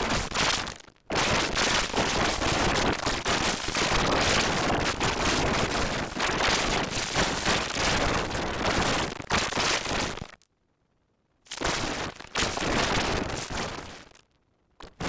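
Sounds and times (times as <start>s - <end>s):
distorted crackling noise: 0.0s - 10.5s, 11.4s - 15.0s.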